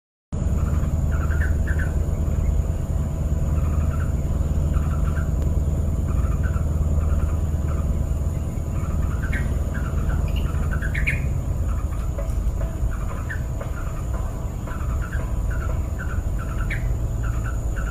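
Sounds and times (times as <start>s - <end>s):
bird calling in chirpy phrases: 0.4s - 17.9s
steady low rumble: 0.4s - 17.9s.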